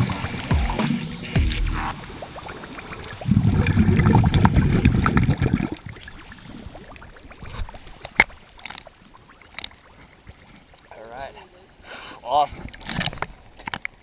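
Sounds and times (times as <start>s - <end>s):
muffled underwater bubbling: 0.0s - 13.5s.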